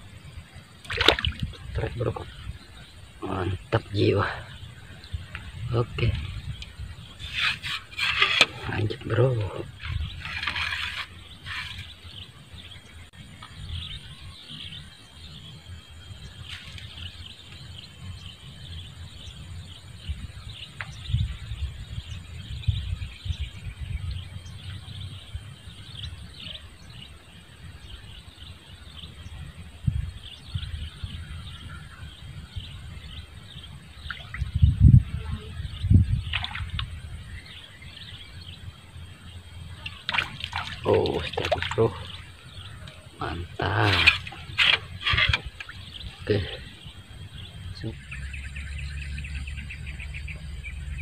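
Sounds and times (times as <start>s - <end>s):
birds chirping: 0.0s - 51.0s
wind rumble on microphone: 0.0s - 51.0s.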